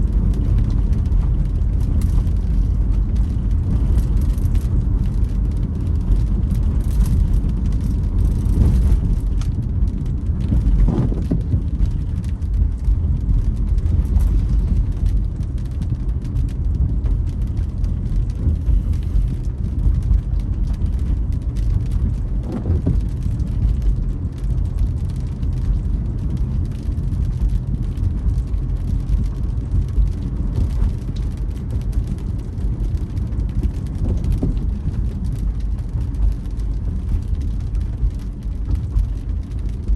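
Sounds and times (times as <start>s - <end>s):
rain ticking on car: 0.0s - 39.9s
tyre and engine rumble: 0.0s - 39.9s
windscreen wipers creaking: 0.0s - 39.9s.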